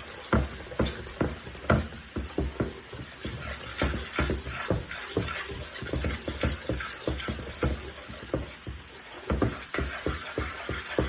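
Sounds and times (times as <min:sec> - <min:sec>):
food frying hiss: 0:00.0 - 0:11.0
spoon knocking in mixing bowl: 0:00.3 - 0:11.0.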